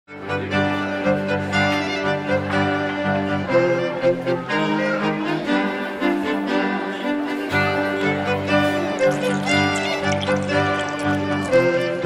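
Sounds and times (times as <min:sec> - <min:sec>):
instrumental music with bowed strings: 0:00.1 - 0:12.0.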